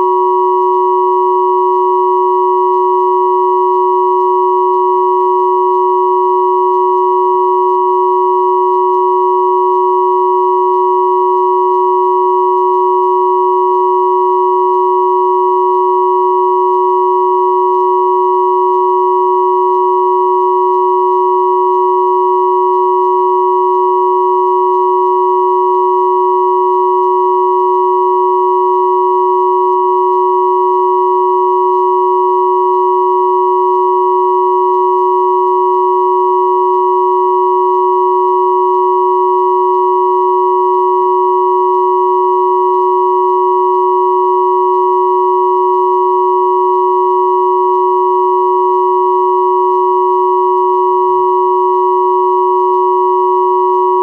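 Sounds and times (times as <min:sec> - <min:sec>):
steady sine tones: 0:00.0 - 0:54.0.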